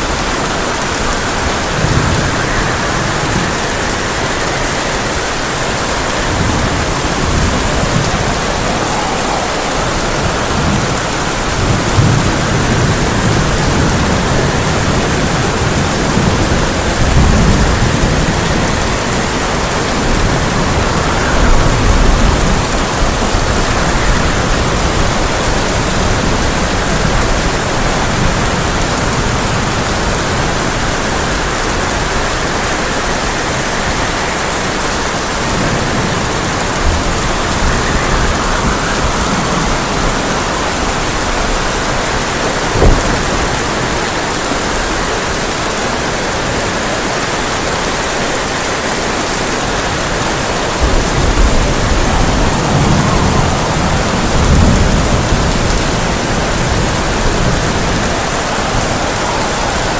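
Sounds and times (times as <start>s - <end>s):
low thunder rumbling: 0.0s - 46.9s, 47.9s - 59.9s
rain on a tin roof: 0.0s - 59.9s.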